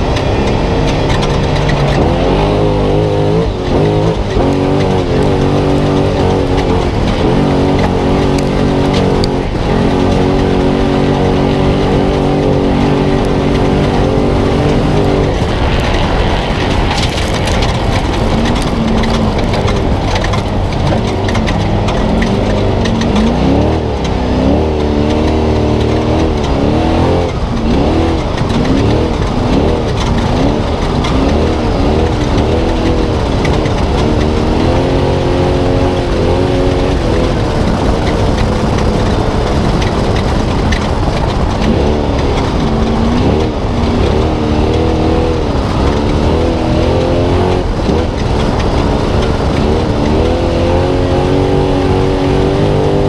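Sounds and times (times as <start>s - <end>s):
road and wind noise: 0.0s - 53.0s
truck engine revving: 0.0s - 53.0s.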